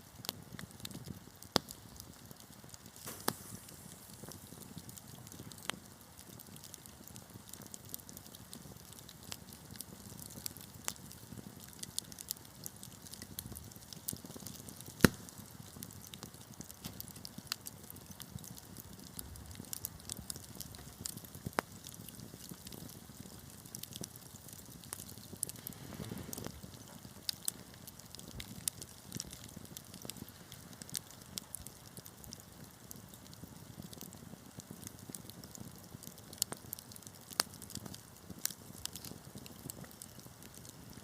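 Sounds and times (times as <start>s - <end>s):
low fire rumble: 0.0s - 41.0s
wood fire crackling and popping: 0.0s - 41.0s.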